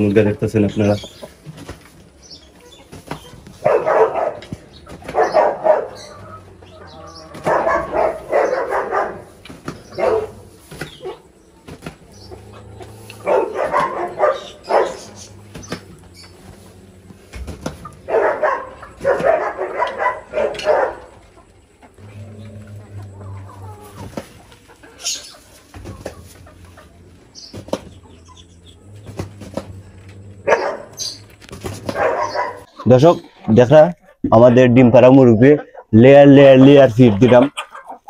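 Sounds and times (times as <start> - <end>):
loud animal calls: 2.6 - 21.2, 21.8 - 34.2.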